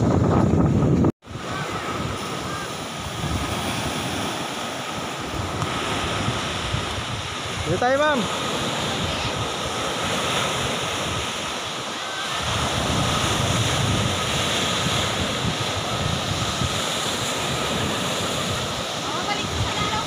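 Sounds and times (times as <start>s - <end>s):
surf breaking on beach: 0.0s - 20.0s
wind rumbling on microphone: 0.0s - 20.0s.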